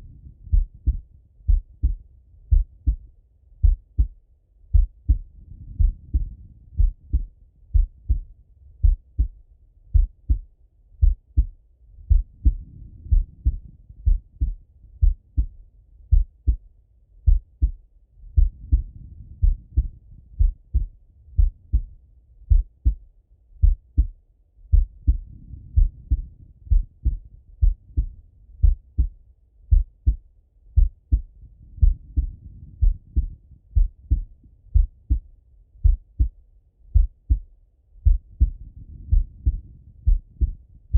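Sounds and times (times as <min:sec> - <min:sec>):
heartbeat through stethoscope: 0:00.0 - 0:23.0, 0:23.6 - 0:40.9.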